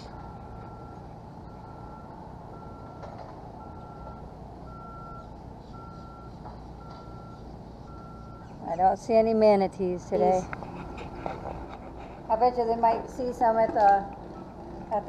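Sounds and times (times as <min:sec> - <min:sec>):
vehicle reversing alarm beeping: 0:00.0 - 0:11.2, 0:12.3 - 0:15.0.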